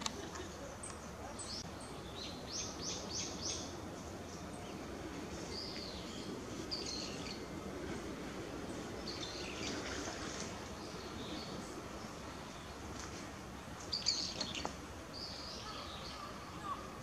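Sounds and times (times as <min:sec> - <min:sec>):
small birds chirping: 0:00.0 - 0:07.9, 0:08.5 - 0:17.0
low background noise: 0:00.0 - 0:17.0.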